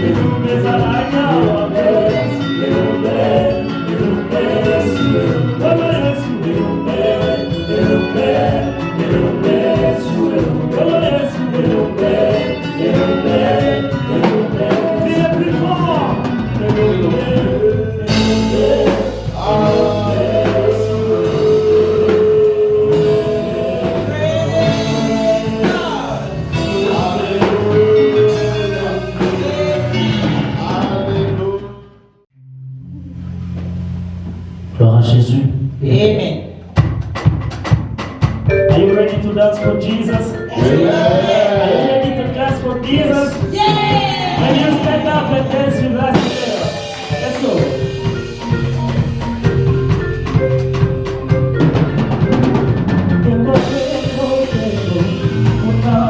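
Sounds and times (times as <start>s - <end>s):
steady drum beat: 0.0s - 31.6s, 36.6s - 56.0s
gospel singers with band: 0.0s - 32.2s, 37.6s - 56.0s.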